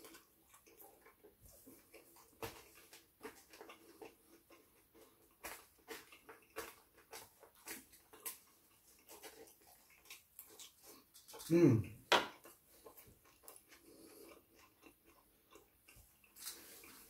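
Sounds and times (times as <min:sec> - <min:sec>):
chewing and lip smacks: 0:00.0 - 0:17.0.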